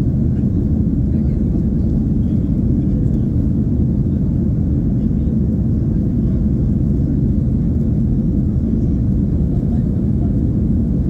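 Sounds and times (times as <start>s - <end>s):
airplane cabin noise: 0.0s - 11.0s.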